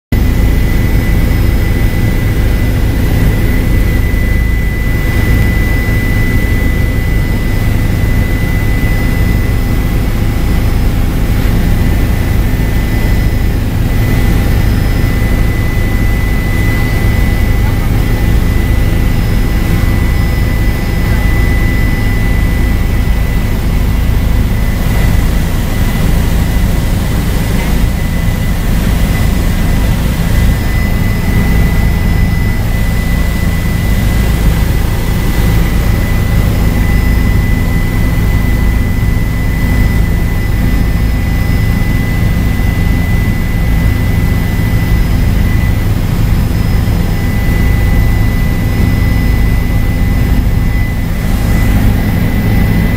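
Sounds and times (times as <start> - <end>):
helicopter rotor and engine drone: 0.1 - 52.9
turbine whine: 0.1 - 52.9.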